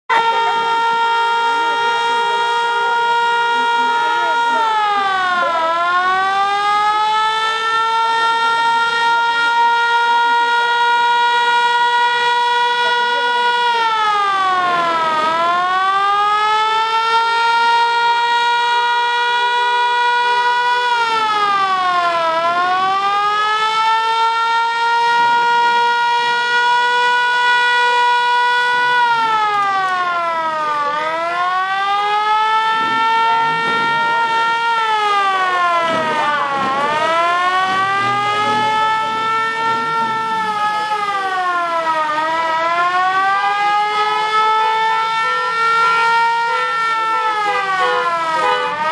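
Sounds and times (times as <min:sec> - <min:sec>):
siren wailing: 0:00.1 - 0:48.9.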